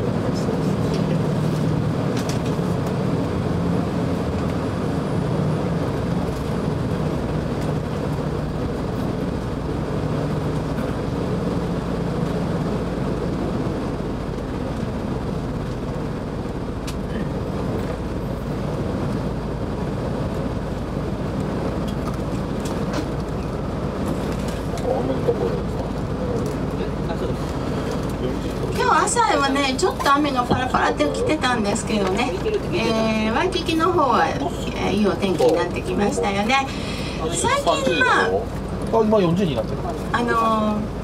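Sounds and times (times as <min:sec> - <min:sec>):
bus engine drone: 0:00.0 - 0:41.0
road noise: 0:00.0 - 0:41.0.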